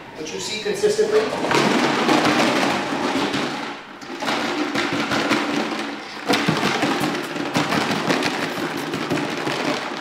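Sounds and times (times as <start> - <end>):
plastic jug rattling: 1.2 - 10.0.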